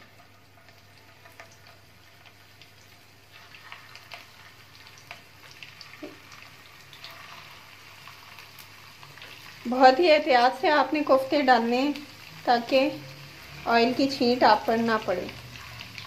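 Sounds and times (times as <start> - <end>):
oil sizzling with pops: 0.0 - 16.0.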